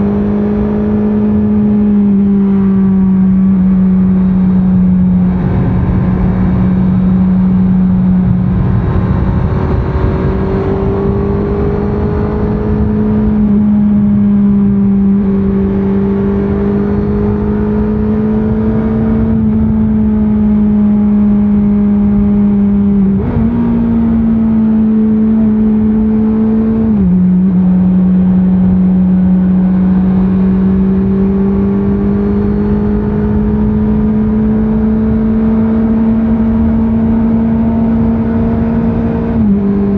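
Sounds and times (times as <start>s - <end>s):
wind and road rush: 0.0s - 39.9s.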